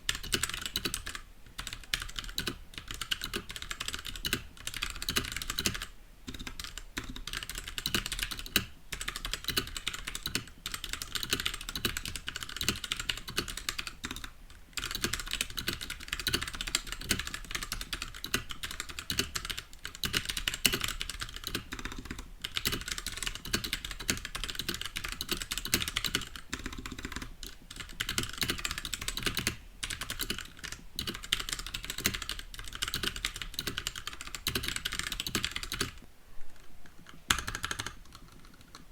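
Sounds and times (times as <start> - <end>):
mechanical keyboard typing: 0.1 - 38.9.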